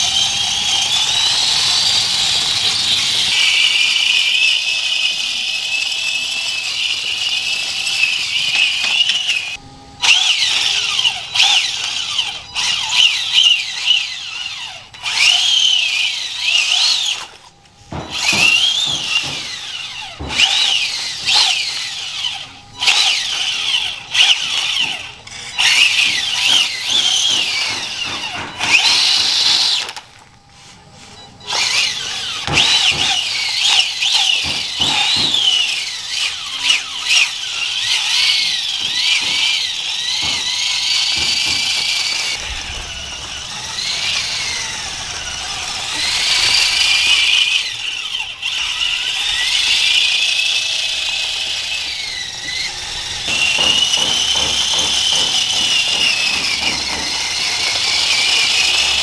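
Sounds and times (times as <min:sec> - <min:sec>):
electric motor and gears whining: 0:00.0 - 0:59.0.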